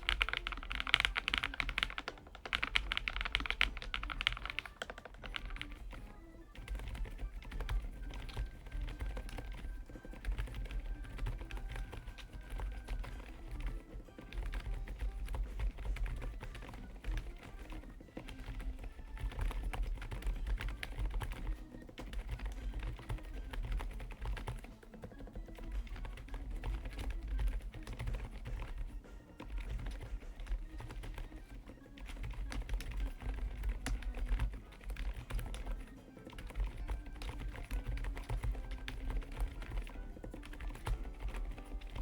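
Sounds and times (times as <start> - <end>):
background music: 0.0 - 42.0
mechanical keyboard typing: 0.0 - 42.0.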